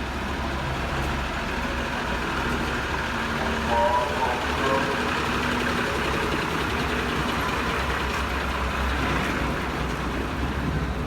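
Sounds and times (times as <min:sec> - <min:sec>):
heavy machine engine rumbling: 0:00.0 - 0:11.0.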